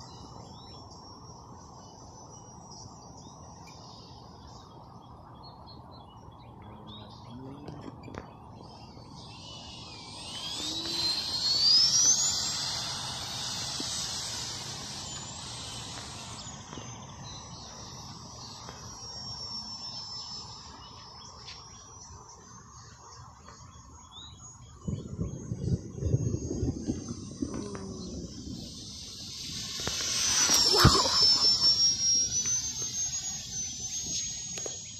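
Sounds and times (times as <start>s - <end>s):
electric ducted fan whining: 0.0s - 34.9s.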